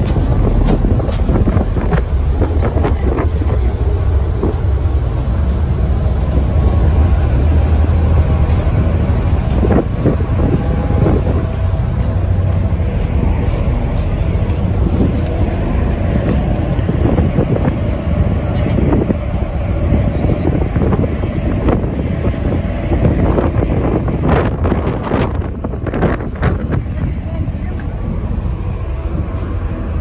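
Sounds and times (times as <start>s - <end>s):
ferry engine rumble: 0.0s - 30.0s
wind buffeting microphone: 0.0s - 30.0s.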